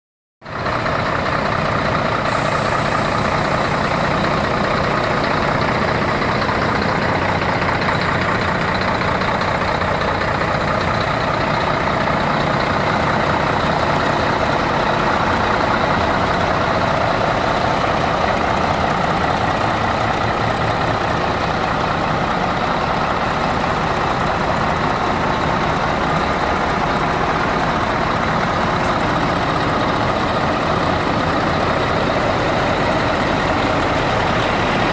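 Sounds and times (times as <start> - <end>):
truck diesel engines idling: 0.4 - 34.9.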